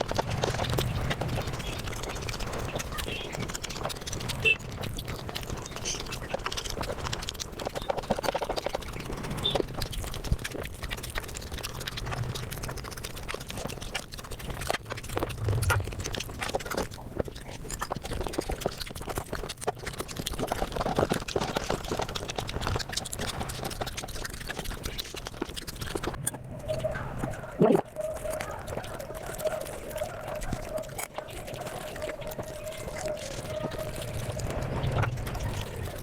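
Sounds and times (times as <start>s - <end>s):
wet chewing and lip-smacking: 0.0s - 36.0s.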